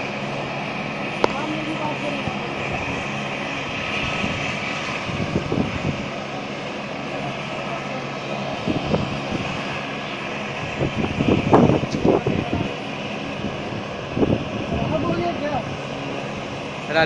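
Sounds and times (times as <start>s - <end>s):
helicopter turbine hum: 0.0s - 17.0s.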